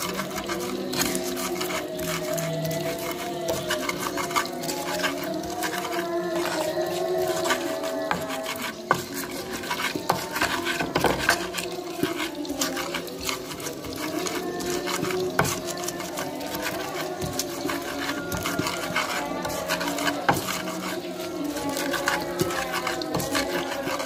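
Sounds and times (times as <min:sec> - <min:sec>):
stone pestle grinding in clay mortar: 0:00.0 - 0:24.0.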